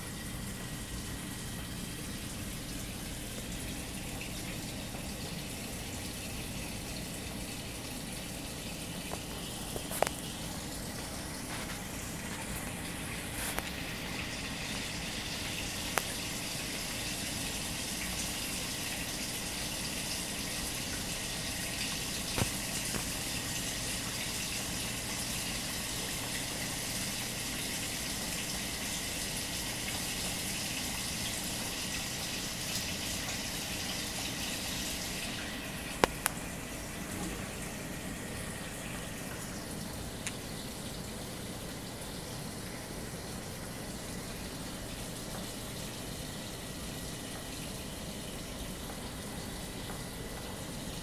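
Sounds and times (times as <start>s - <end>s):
water running and splashing: 0.0s - 51.0s.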